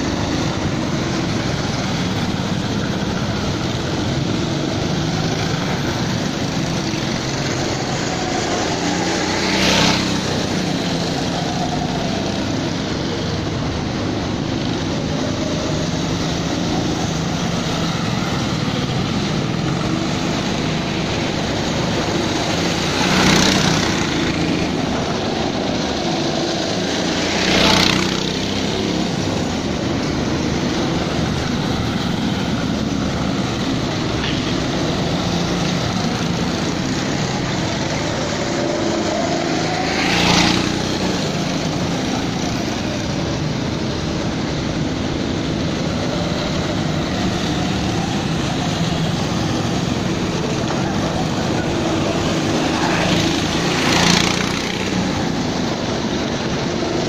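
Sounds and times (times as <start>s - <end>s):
go-kart engines buzzing: 0.0s - 57.0s.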